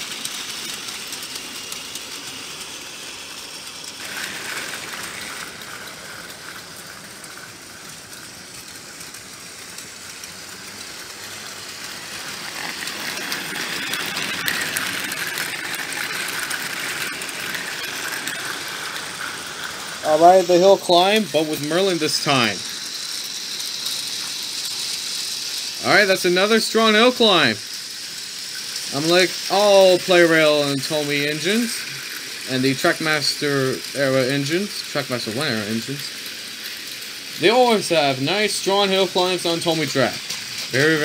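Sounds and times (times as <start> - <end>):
toy train motor whirring: 0.0 - 41.0
wheels rattling on plastic track: 0.0 - 41.0.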